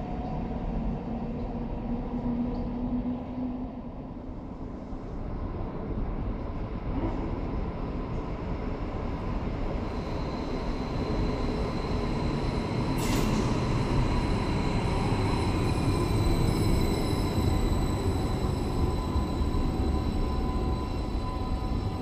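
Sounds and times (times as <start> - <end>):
train rumbling in tunnel: 0.0 - 22.0.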